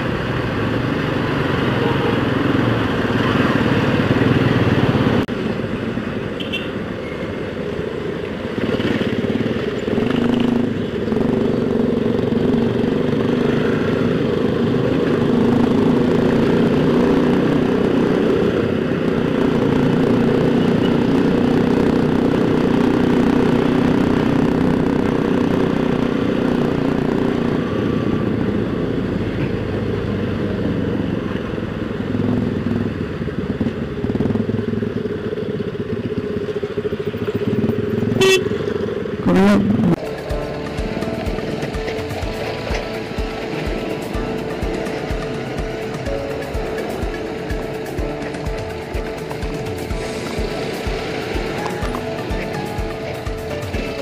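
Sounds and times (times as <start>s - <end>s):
motorcycle engine running: 0.0s - 6.7s, 7.5s - 54.0s.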